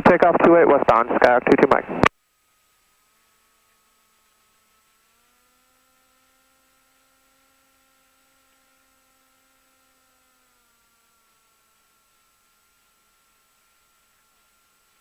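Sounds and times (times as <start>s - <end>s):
faint steady hum: 0.0s - 15.0s
thin high whine: 0.0s - 15.0s.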